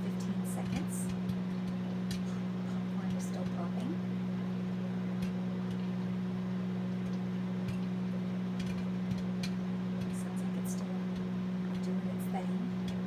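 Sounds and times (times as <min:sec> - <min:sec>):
microwave oven humming: 0:00.0 - 0:13.0
popcorn popping: 0:00.0 - 0:13.0.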